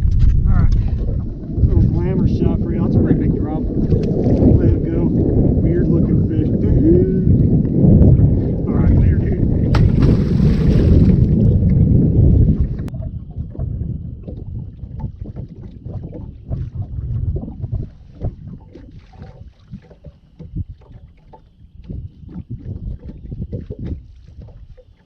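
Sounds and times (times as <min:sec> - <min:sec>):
waves slapping boat hull: 0:00.0 - 0:25.0
wind gusting on microphone: 0:00.0 - 0:25.0.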